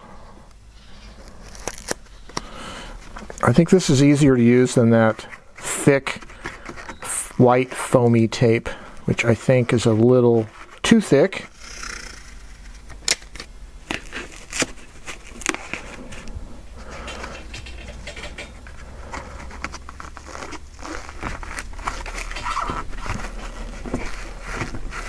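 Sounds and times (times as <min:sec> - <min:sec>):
foam rustling and crinkling: 0:00.8 - 0:11.6, 0:13.9 - 0:17.8, 0:18.6 - 0:25.0.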